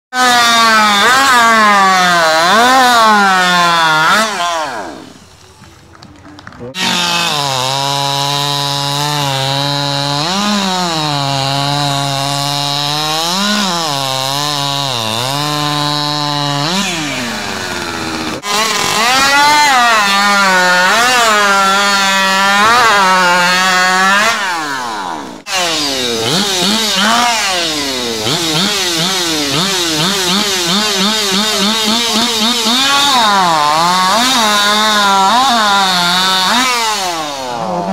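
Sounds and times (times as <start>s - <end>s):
chainsaw engine revving: 0.1s - 5.5s, 6.7s - 37.9s.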